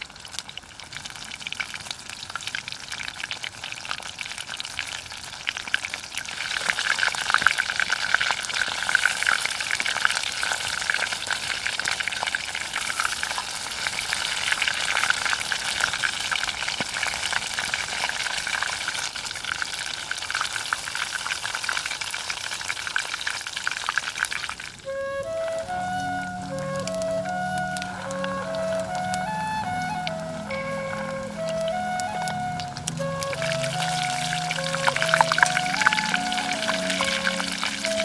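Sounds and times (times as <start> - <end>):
food deep-frying in hot oil: 0.0 - 38.0.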